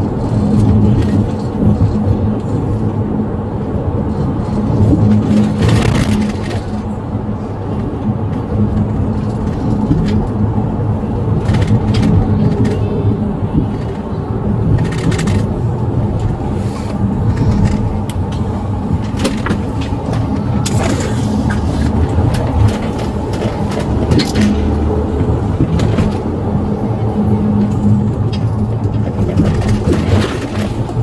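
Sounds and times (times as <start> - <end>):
vehicle engine and road noise: 0.0 - 31.0.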